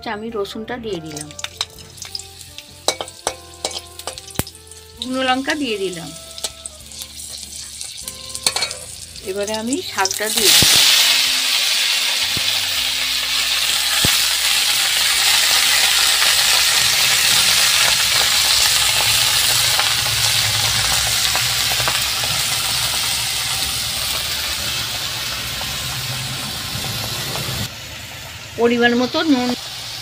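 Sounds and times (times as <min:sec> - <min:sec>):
leaves sizzling in hot oil: 0:01.0 - 0:30.0.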